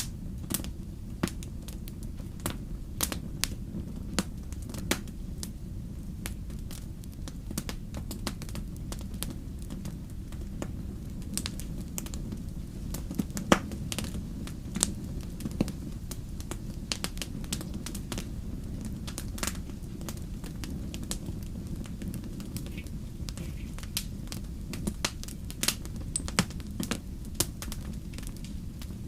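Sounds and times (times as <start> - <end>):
low rumble of fire: 0.0 - 29.0
wood fire crackling: 0.0 - 29.0.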